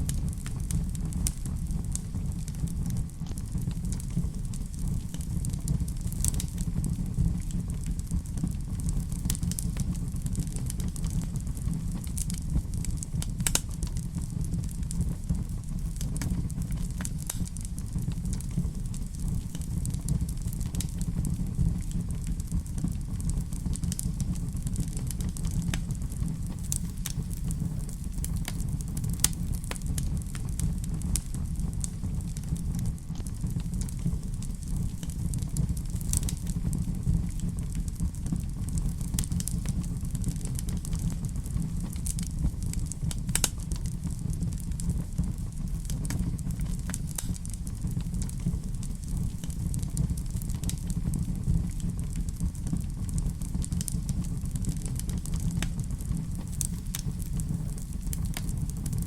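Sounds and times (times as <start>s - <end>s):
fireplace fire crackling: 0.0s - 59.0s.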